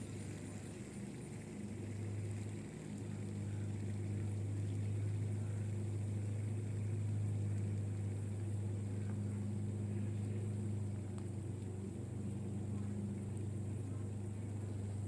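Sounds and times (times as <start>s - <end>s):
fidget spinner humming: 0.0s - 15.0s.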